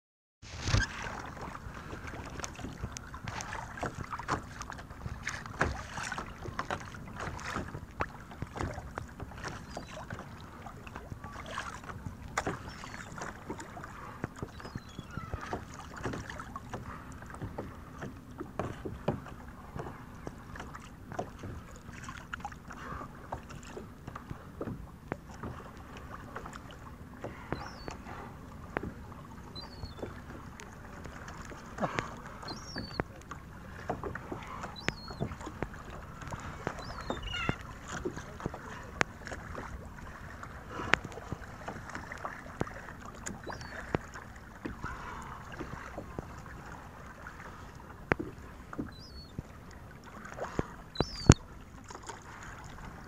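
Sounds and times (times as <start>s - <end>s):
small knocks on hull: 0.4s - 53.0s
water splashing against kayak hull: 0.4s - 53.0s.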